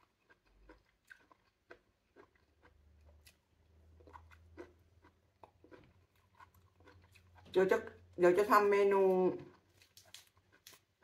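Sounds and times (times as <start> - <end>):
wet clicks and smacks of eating: 0.0 - 7.5, 9.4 - 11.0.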